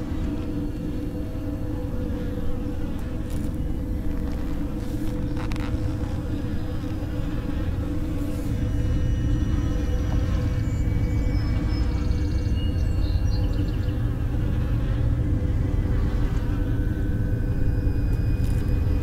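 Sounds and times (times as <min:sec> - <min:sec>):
low buzzing drone: 0:00.0 - 0:19.0.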